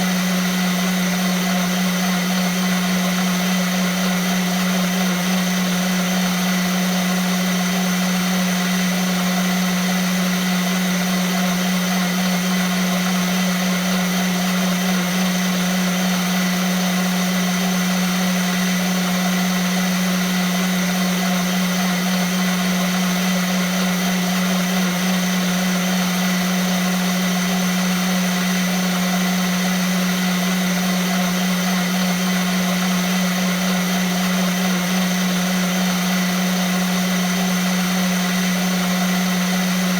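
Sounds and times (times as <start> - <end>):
blender motor whirring: 0.0 - 39.9.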